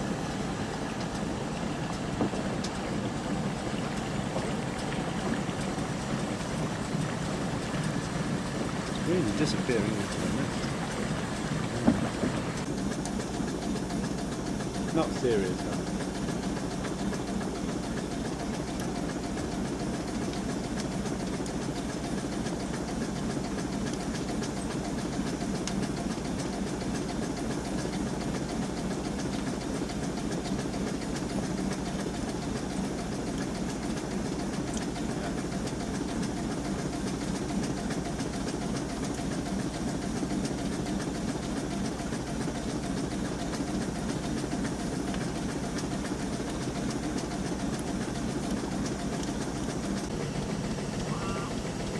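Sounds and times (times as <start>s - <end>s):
steam engine running: 0.0s - 51.9s.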